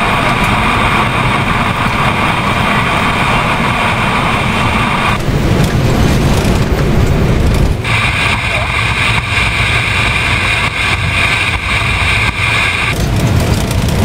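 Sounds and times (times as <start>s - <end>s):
jet engines and rushing airflow: 0.0s - 14.0s.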